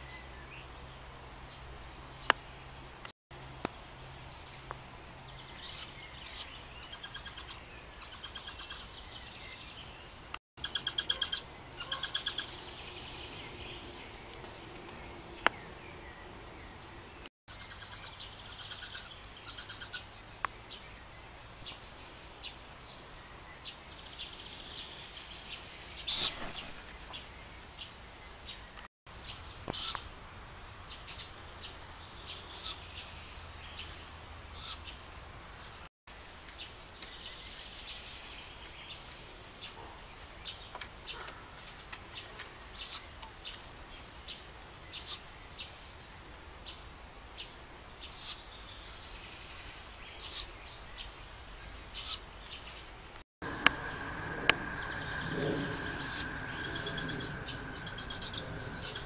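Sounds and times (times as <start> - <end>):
birds chirping: 4.0 - 59.0.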